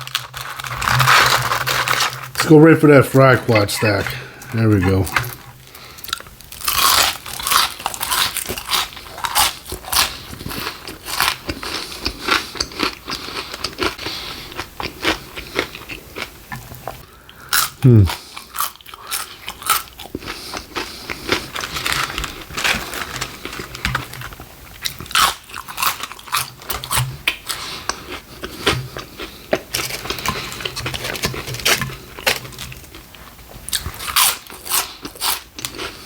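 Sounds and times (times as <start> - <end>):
chewing crunchy food: 0.0 - 36.0.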